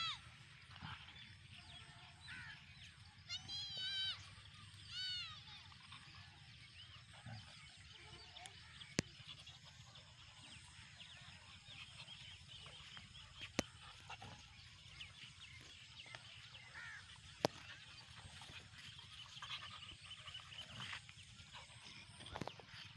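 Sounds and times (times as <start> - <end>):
small chirping calls: 0.0 - 22.9.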